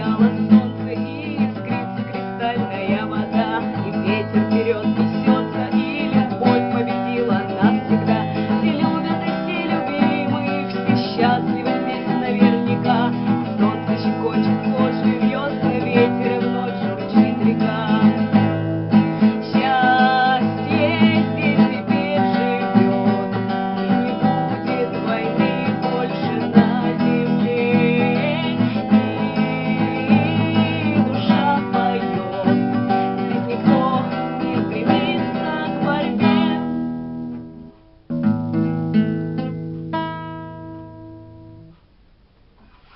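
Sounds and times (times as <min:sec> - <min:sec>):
strummed acoustic guitar music: 0:00.0 - 0:42.9.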